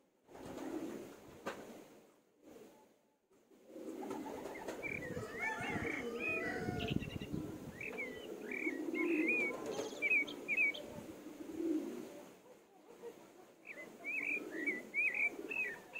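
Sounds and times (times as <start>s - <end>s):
adult birds cooing: 0.4s - 1.1s, 3.6s - 15.9s.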